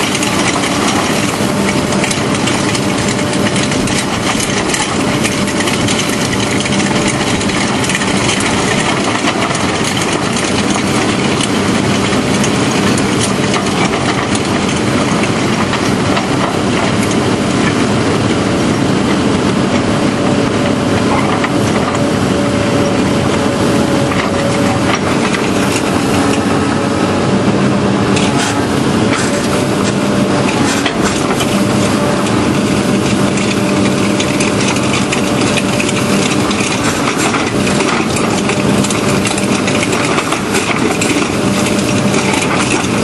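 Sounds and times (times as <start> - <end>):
drum cutter grinding rock: 0.0 - 43.0
excavator engine under load: 0.0 - 43.0.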